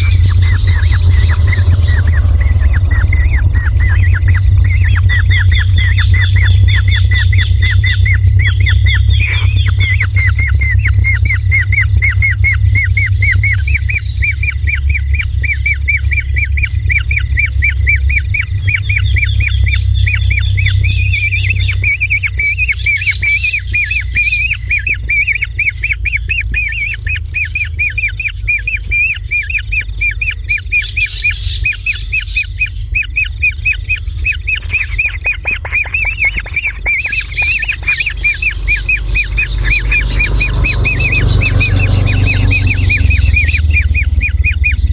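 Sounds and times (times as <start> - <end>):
low rumble: 0.0 - 28.8, 32.5 - 44.9
high-pitched whine: 0.0 - 44.9
kingfisher chirping: 0.0 - 44.9.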